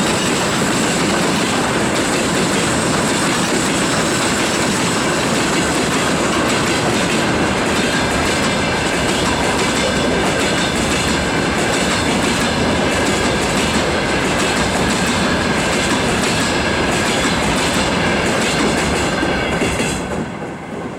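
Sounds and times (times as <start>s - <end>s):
freight train wheels clattering: 0.0s - 20.9s.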